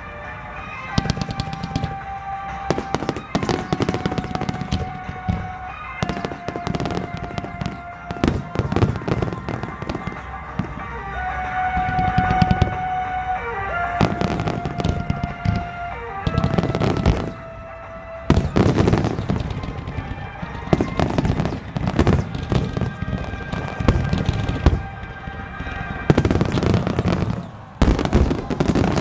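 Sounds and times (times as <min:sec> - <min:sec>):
firework shells booming and crackling: 0:00.0 - 0:29.0
music: 0:00.0 - 0:29.0.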